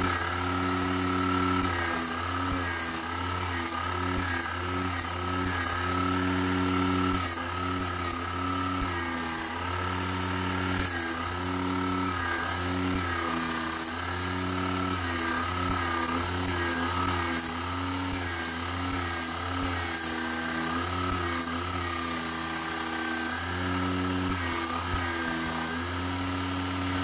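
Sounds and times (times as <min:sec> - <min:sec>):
generator hum: 0:00.0 - 0:27.0
wavering motor whine: 0:00.0 - 0:27.0.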